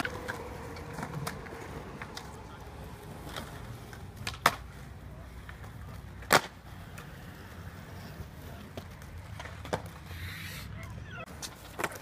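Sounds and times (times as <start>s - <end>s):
skateboard clacking on concrete: 0.0s - 10.1s, 10.8s - 12.0s.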